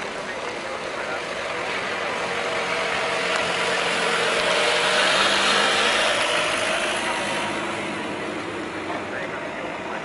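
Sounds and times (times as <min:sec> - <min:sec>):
engine noise: 0:00.0 - 0:10.0.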